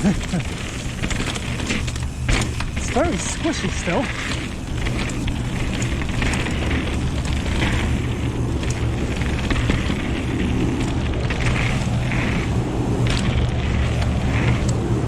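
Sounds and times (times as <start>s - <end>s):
bike tyres and rattling: 0.0s - 15.0s.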